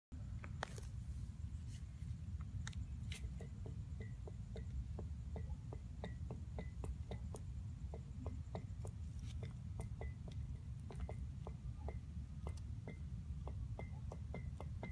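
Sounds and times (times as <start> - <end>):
wheel bearing clicking: 2.4 - 14.9.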